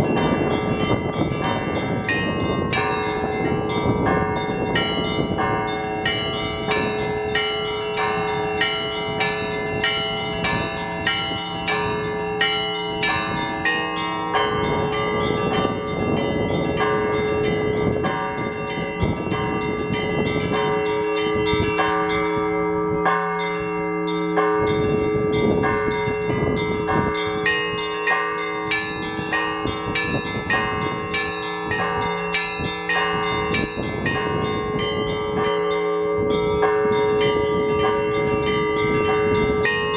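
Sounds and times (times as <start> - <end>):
large bells humming: 0.0 - 39.9
small church bells striking: 0.0 - 39.9
wind rumbling on microphone: 0.0 - 39.9.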